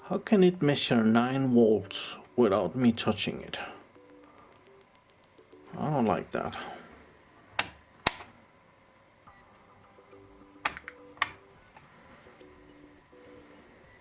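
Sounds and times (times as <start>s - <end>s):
faint steady tones: 0.0s - 14.0s.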